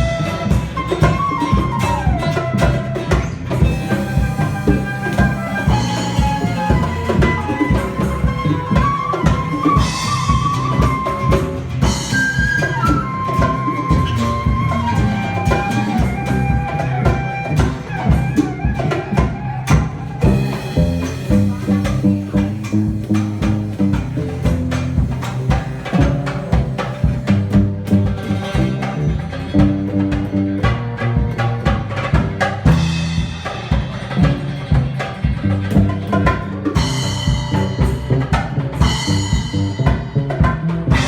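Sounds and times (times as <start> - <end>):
drum kit beat: 0.0 - 41.0
live band playing: 0.0 - 41.0.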